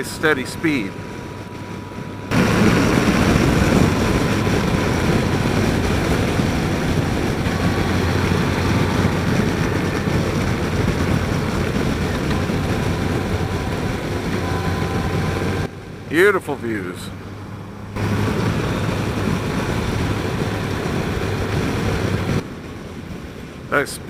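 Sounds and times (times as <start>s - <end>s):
motorcycle engine cruising: 0.0s - 22.4s
wind rushing over microphone: 0.0s - 24.0s.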